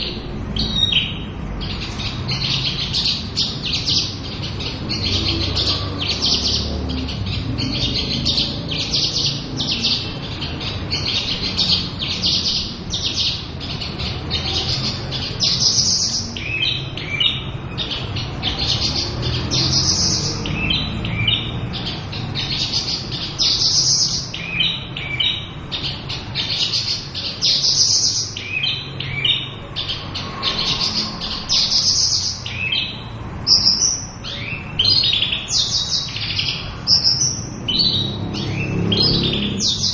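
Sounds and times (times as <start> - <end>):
lark singing chirps and trills: 0.0 - 39.9.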